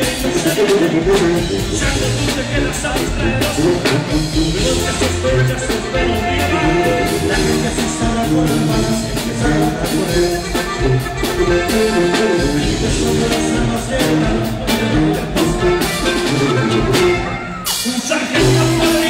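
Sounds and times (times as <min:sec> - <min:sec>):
live band music over loudspeakers: 0:00.0 - 0:19.0.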